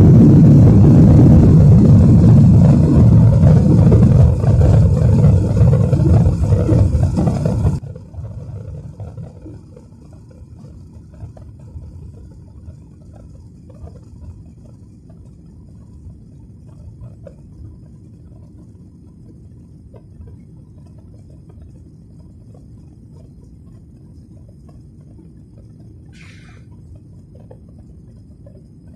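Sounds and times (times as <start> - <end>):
jet engines and rushing air: 0.0 - 28.9.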